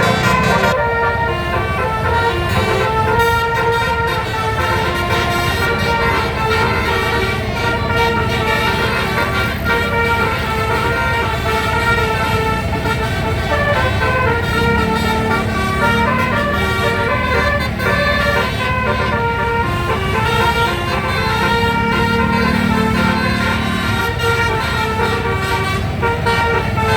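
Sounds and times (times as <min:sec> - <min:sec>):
bus engine rumble: 0:00.0 - 0:26.9
musical air horn melody: 0:00.0 - 0:26.9.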